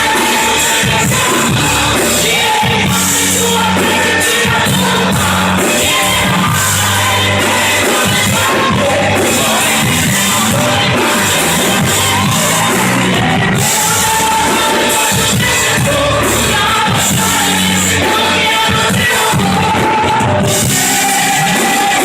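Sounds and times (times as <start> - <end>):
crowd shouting: 0.0 - 22.0
gospel band music with singing: 0.0 - 22.0.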